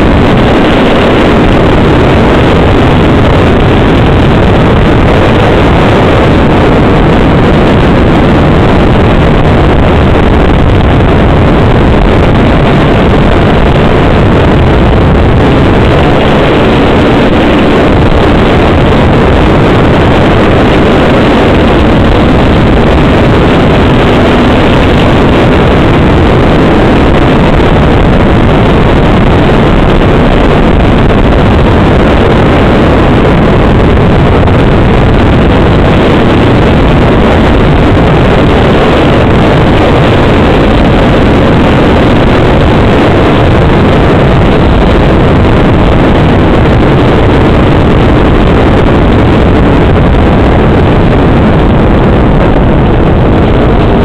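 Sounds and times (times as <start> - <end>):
wind over microphone: 0.0 - 54.0.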